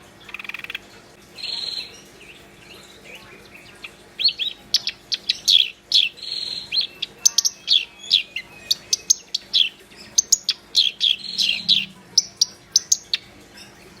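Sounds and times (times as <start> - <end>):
bird song with whistles and clicks: 1.4 - 14.0.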